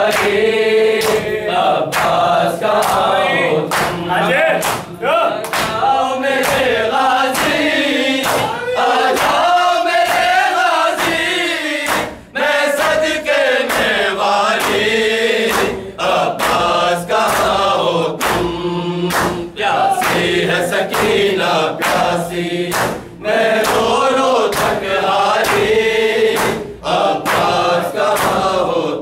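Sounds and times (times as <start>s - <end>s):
men chanting in unison: 0.0s - 29.0s
hands slapping bare chests: 0.1s - 0.4s, 1.0s - 2.2s, 2.8s - 3.1s, 3.7s - 4.0s, 4.6s - 5.8s, 6.4s - 12.2s, 13.6s - 28.7s.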